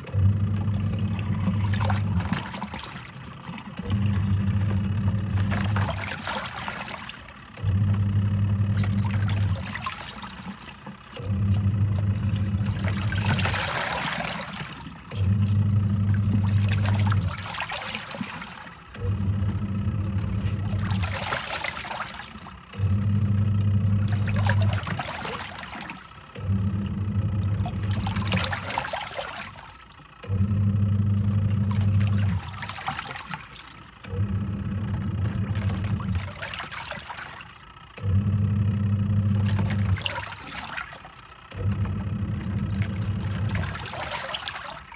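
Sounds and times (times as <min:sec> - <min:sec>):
washing machine motor humming: 0:00.0 - 0:44.9
water and clothes sloshing: 0:00.0 - 0:44.9.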